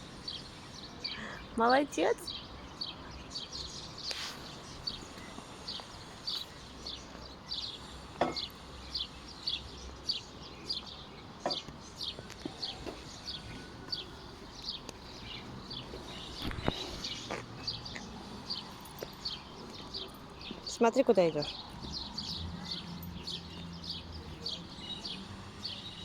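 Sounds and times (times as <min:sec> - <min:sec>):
bird chirping: 0:00.2 - 0:26.0.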